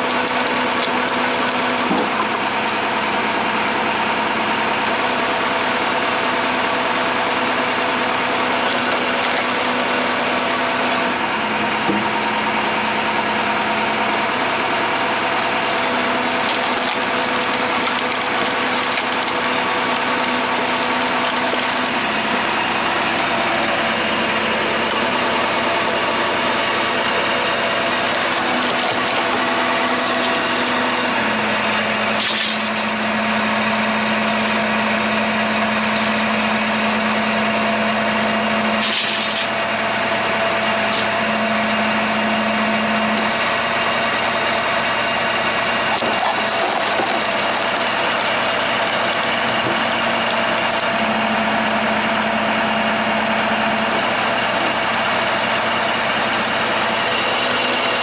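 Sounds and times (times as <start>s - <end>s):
machine engine running: 0.0s - 58.0s.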